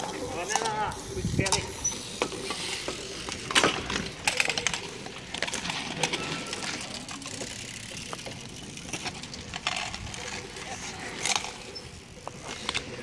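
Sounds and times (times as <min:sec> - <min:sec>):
bicycles rattling: 0:00.0 - 0:13.0.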